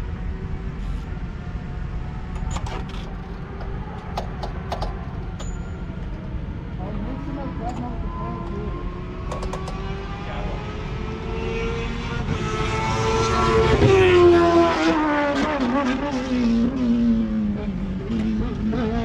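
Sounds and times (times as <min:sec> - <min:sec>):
race car engine: 0:00.0 - 0:19.0.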